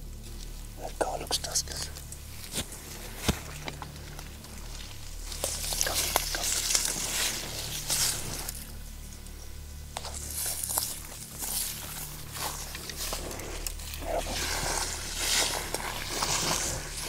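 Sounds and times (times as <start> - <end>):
dry leaves rustling: 0.0 - 17.0
steady low hum: 0.0 - 17.0.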